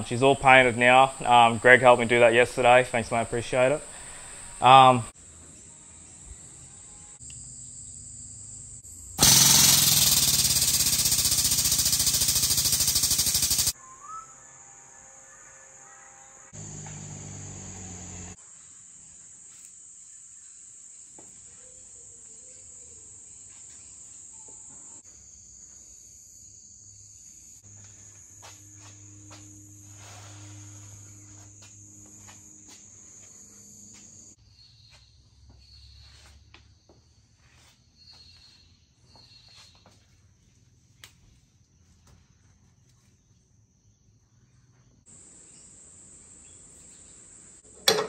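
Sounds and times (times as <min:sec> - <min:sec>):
insects chirring: 0:00.0 - 0:40.0, 0:40.9 - 0:48.0.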